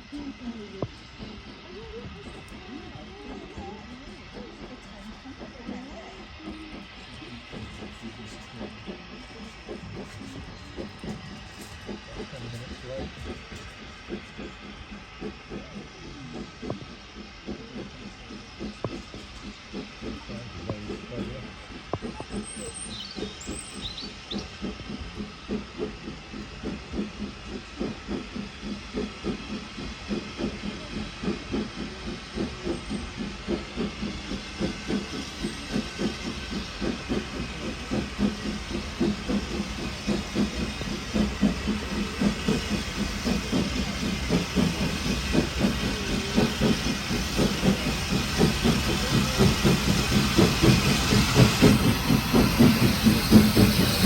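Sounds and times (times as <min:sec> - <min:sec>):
locomotive exhaust beating: 0:00.0 - 0:54.0.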